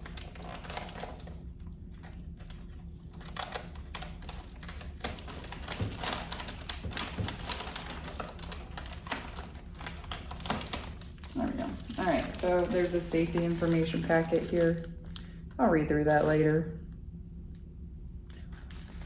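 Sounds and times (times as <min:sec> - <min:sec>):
packing material rustling: 0:00.0 - 0:16.7, 0:18.3 - 0:19.0.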